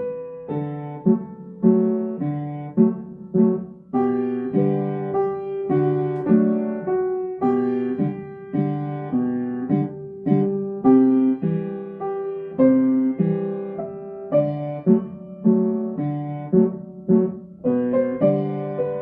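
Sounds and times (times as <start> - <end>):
piano playing pop song: 0.0 - 19.0.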